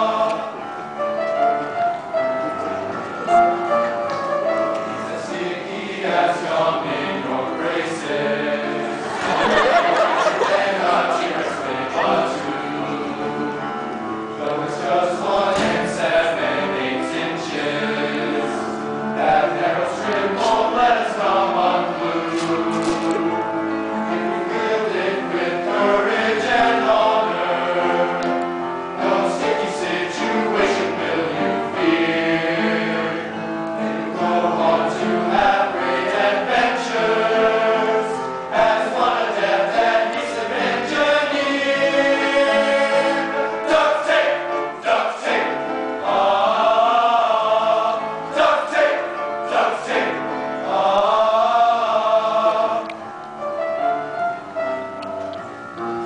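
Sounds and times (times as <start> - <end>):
male choir singing in harmony: 0.0 - 54.7.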